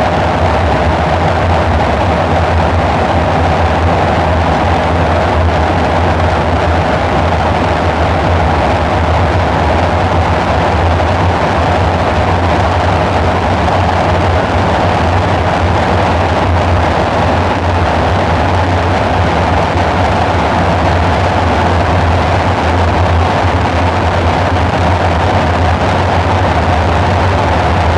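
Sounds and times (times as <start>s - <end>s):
dark ambient synthesizer drone: 0.0s - 27.9s.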